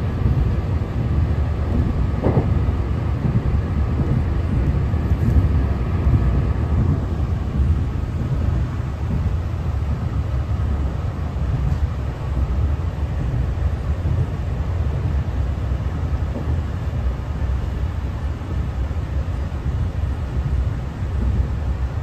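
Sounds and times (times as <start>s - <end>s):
train interior running rumble: 0.0s - 22.0s.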